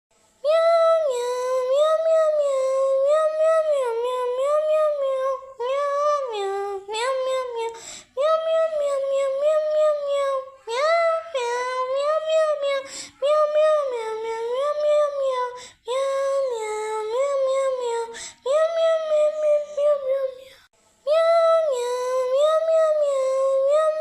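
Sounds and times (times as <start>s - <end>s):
high wordless singing: 0.4s - 24.0s.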